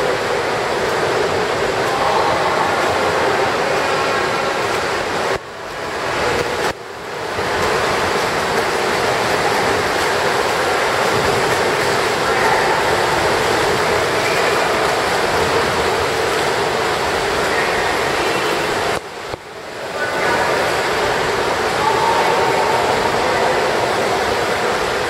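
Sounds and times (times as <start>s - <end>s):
swimmer splashing water: 0.0s - 25.0s.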